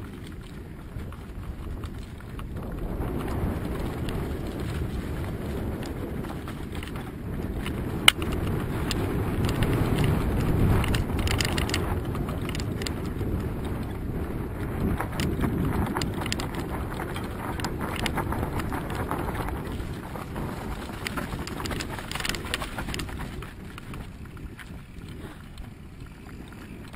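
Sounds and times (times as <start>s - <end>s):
bike rattles and knocks: 0.0s - 26.9s
wind on microphone: 0.0s - 26.9s.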